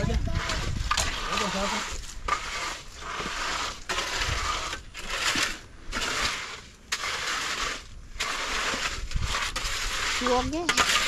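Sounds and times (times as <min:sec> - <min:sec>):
shovel scraping through concrete: 0:00.0 - 0:11.0.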